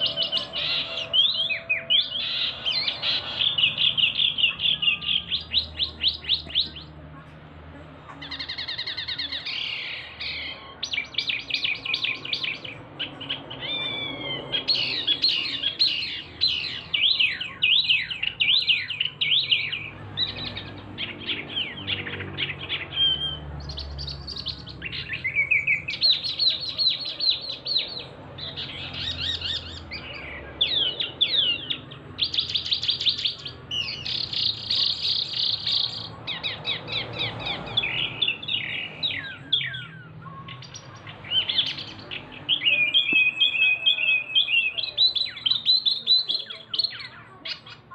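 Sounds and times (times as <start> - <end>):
songbird trilling: 0.0 - 7.0, 8.2 - 47.9.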